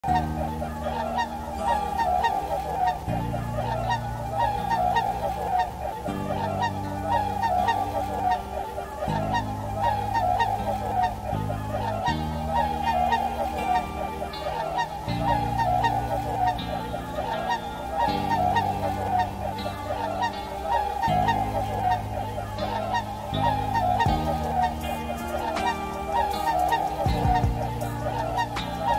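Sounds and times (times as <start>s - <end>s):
soft background music: 0.0s - 28.9s
swans and geese honking: 0.0s - 28.9s.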